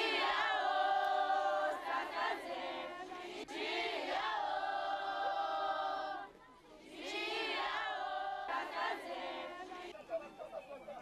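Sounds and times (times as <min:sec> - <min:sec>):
group of women singing in unison: 0:00.0 - 0:09.9.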